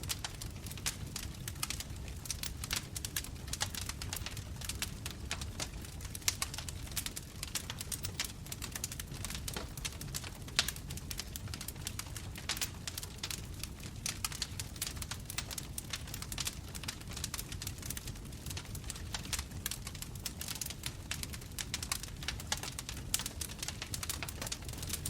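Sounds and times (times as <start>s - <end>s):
loud fire snaps: 0.0s - 25.0s
wood bonfire crackling: 0.0s - 25.0s.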